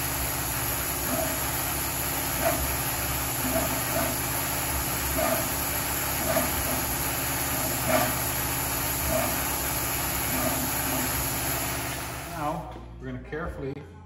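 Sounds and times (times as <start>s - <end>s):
shop hum: 0.0s - 14.0s.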